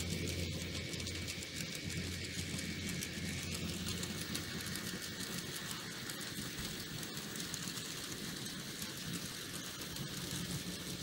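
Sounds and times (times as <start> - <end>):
model train rolling on track: 0.0 - 11.0
wheels clicking on rails: 0.0 - 11.0.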